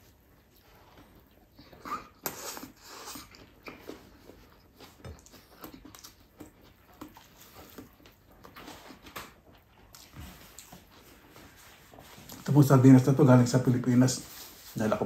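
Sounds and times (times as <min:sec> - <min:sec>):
person chewing with lip smacks: 0:00.1 - 0:12.5.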